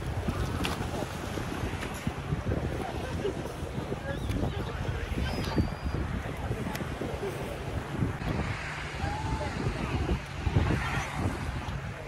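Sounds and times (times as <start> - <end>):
sea waves washing: 0.0 - 12.0
wind buffeting the microphone: 0.0 - 12.0.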